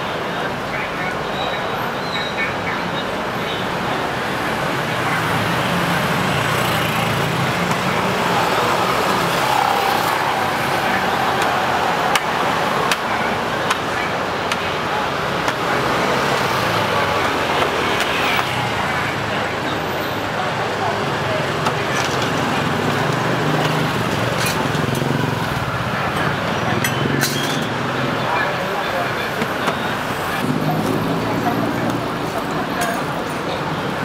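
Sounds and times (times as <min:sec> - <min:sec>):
faint voices: 0:00.0 - 0:34.0
street traffic passing: 0:00.0 - 0:34.0.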